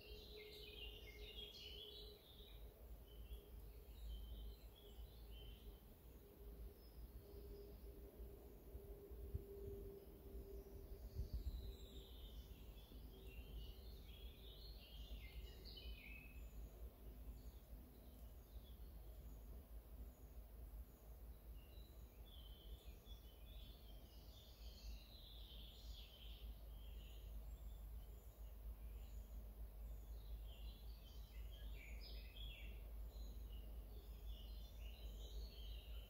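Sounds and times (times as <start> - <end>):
faint warbling birdsong: 0.0 - 36.0.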